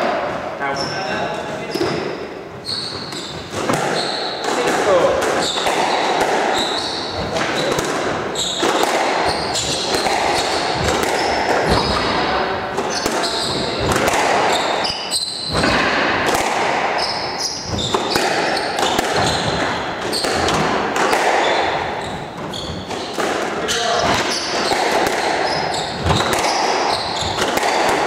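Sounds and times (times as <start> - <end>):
shoes squeaking on wooden floor: 0.3 - 15.8, 16.8 - 28.0
squash ball knocking: 3.0 - 28.0.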